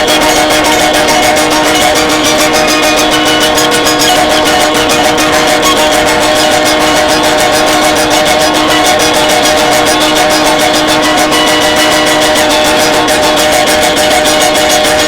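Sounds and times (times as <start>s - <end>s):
loud droning guitar music: 0.0s - 15.0s.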